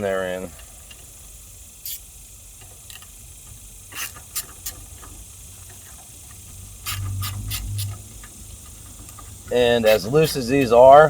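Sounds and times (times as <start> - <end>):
low hum and hiss: 0.0 - 11.0
hand tools clicking and scraping: 1.8 - 11.0.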